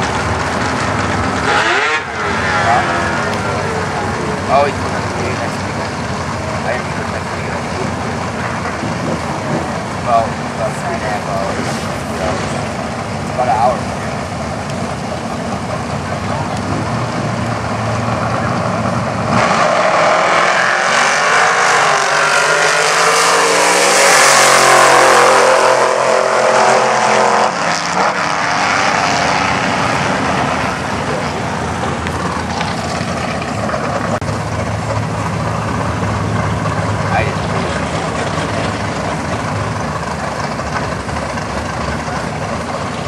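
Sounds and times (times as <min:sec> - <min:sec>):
car engine running at low revs: 0:00.0 - 0:19.9, 0:21.6 - 0:43.0
vehicles accelerating at full throttle: 0:00.0 - 0:43.0.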